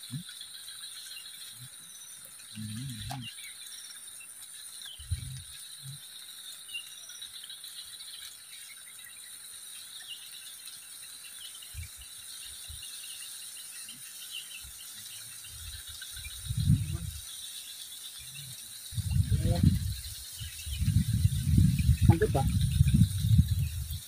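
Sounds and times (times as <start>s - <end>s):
insects buzzing: 0.0s - 24.0s.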